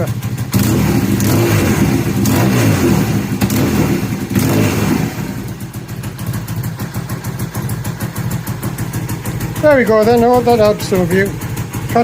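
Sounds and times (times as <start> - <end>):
engine mechanical clatter: 0.0 - 12.0
motorcycle engine revving: 0.0 - 12.0.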